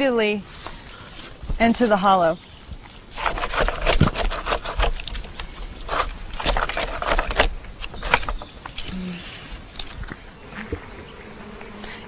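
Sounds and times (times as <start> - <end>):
stick scraping and knocking wood: 0.6 - 10.9.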